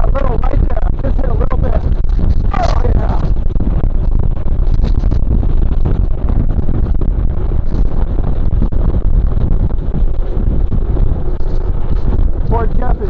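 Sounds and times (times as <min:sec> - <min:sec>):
wind buffeting microphone: 0:00.0 - 0:13.0
bike rattling over rough trail: 0:00.2 - 0:13.0.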